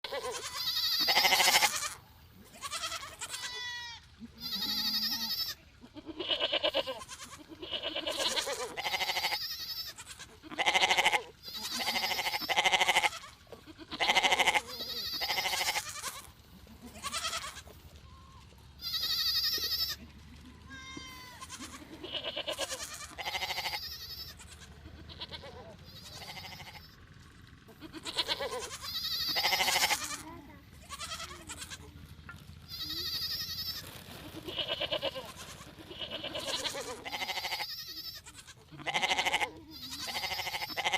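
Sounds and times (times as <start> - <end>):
sheep bleating: 0.0 - 27.0, 27.7 - 32.0, 32.7 - 40.9.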